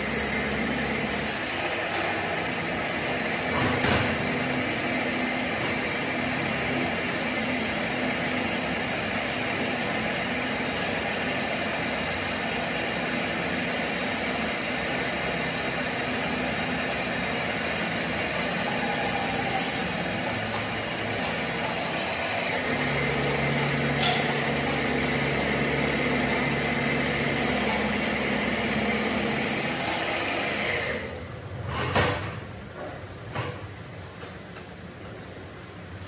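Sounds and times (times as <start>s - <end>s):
machinery humming: 0.0s - 31.6s.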